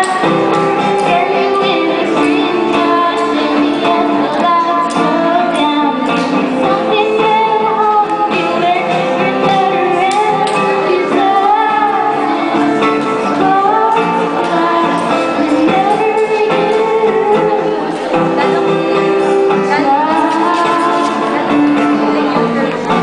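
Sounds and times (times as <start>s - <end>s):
acoustic guitar strumming: 0.0s - 23.0s
woman singing pop song: 0.0s - 23.0s.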